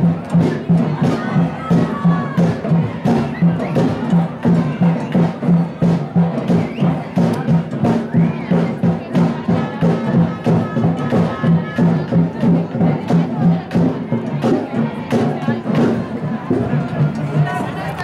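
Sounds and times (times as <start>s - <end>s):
upbeat music with drum beat: 0.0s - 18.0s.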